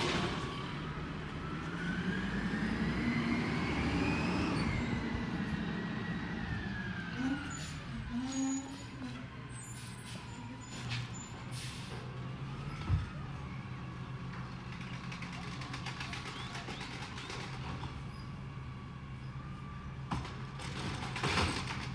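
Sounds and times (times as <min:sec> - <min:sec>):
truck engine hum with whine: 0:00.0 - 0:21.9.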